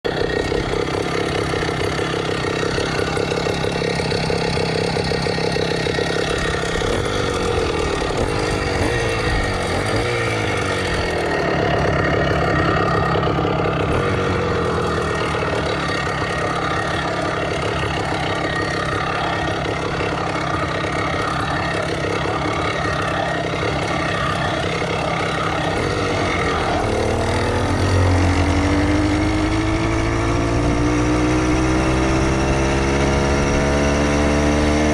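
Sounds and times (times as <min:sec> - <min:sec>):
small bicycle engine revving: 0:00.0 - 0:34.9.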